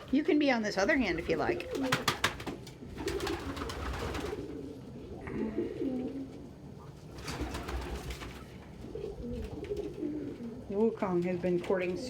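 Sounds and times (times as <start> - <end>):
pigeons cooing: 0.8 - 10.7
rustling: 1.0 - 12.0.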